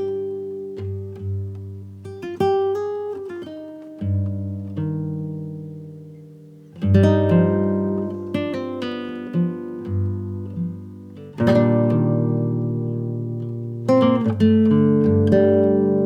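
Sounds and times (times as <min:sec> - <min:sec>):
acoustic guitar chords strummed: 0:00.0 - 0:16.0
plucked guitar notes ringing: 0:00.0 - 0:16.0.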